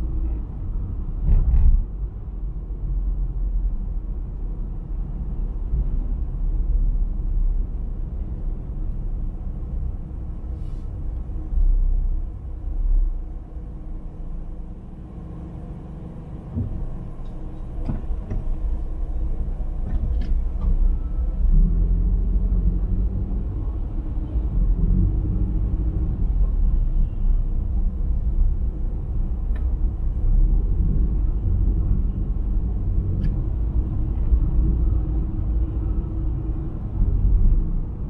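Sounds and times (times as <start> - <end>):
car engine and tyre noise: 0.0 - 38.0.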